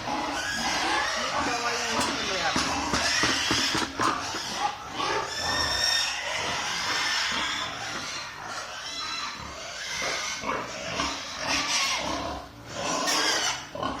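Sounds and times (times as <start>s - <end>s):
pigs squealing: 0.0s - 14.0s.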